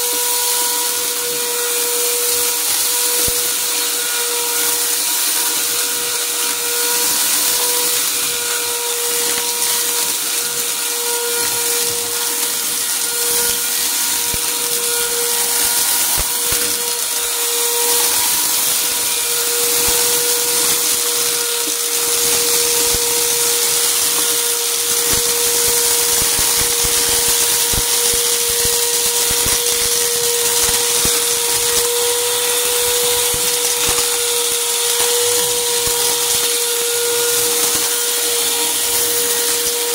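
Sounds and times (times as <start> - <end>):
vacuum cleaner humming: 0.0 - 39.9
debris crackling in vacuum: 2.2 - 39.9.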